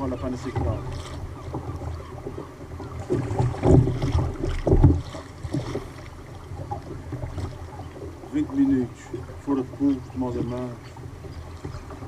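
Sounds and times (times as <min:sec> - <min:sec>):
water slapping against kayak: 0:00.0 - 0:12.0.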